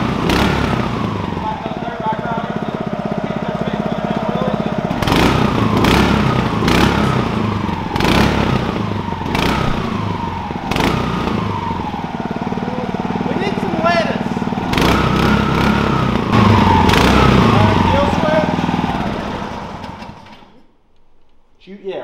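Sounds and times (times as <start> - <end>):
mud motor engine revving: 0.0 - 20.7.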